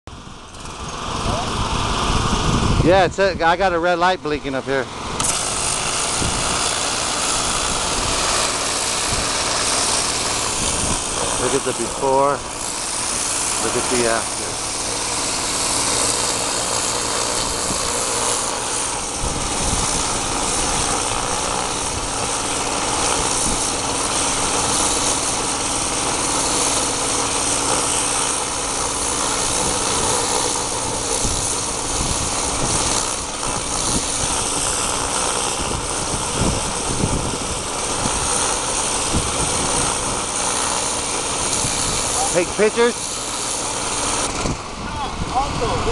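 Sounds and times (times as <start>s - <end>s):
pressure washer engine running: 0.1s - 45.9s
water spray hissing on roof tiles: 5.2s - 45.9s.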